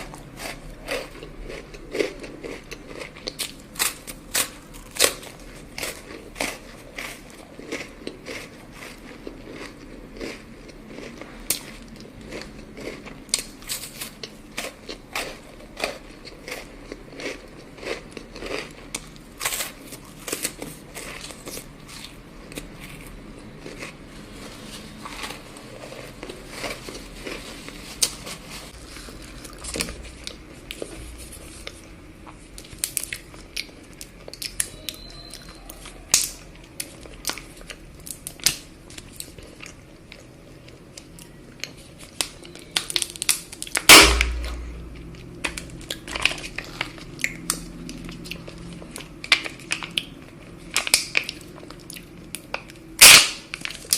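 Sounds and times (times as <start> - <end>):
chocolate crunching: 0.0 - 53.9.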